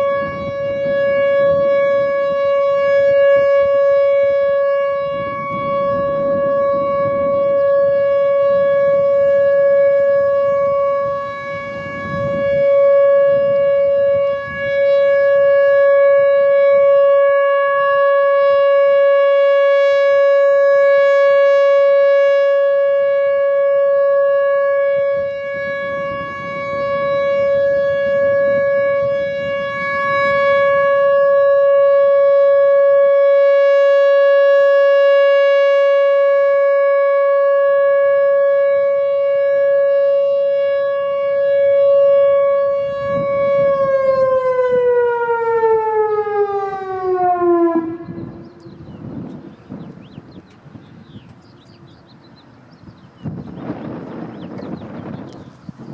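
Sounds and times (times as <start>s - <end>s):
warning siren steady tone: 0.0s - 55.9s.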